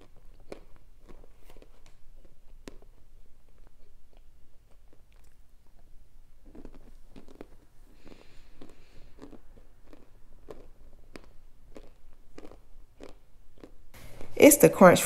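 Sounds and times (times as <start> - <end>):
crunchy chewing: 0.0 - 14.4.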